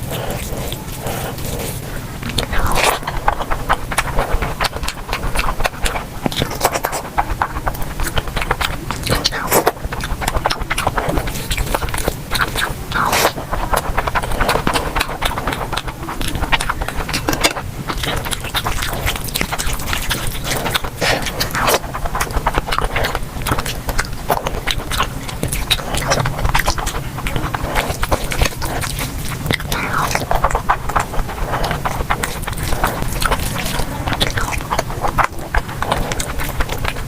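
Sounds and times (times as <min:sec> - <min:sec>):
person chewing and smacking: 0:00.0 - 0:37.0.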